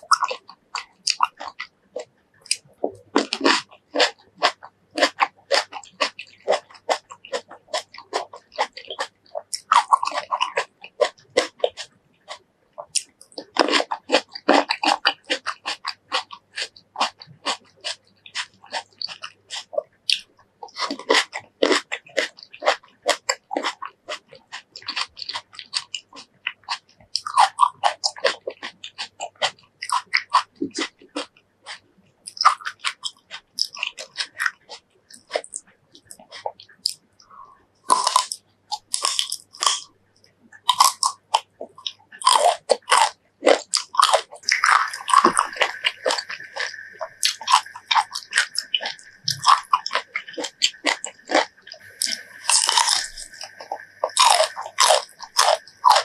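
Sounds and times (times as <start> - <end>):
person crunching fresh fruit: 0.0 - 56.0.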